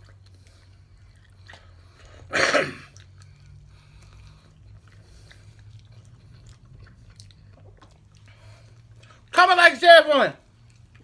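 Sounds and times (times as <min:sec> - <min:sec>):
biting and chewing clicks: 0:00.0 - 0:09.3, 0:10.4 - 0:11.0
low steady hum: 0:00.0 - 0:11.0.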